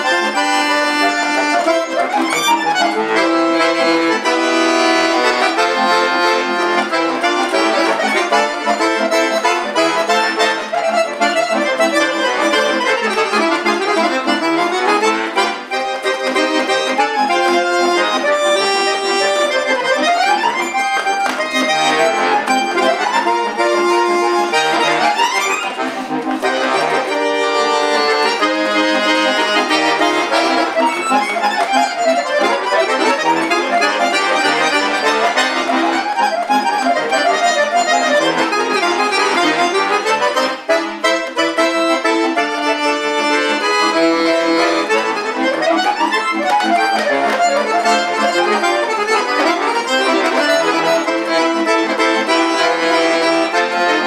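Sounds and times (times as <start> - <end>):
button accordion playing: 0.0 - 54.0.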